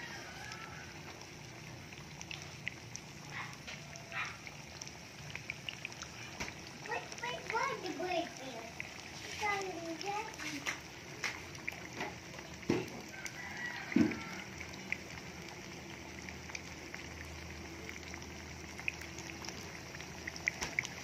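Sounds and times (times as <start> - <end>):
deep-frying sizzle and pops: 0.0 - 21.0.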